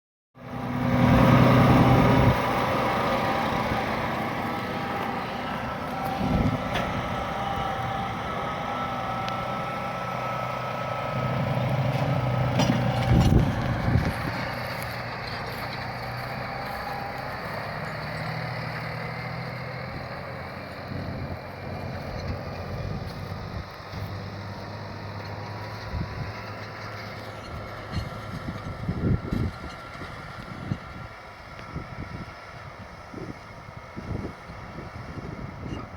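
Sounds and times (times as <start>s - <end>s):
tractor diesel engine under load: 0.4s - 35.9s.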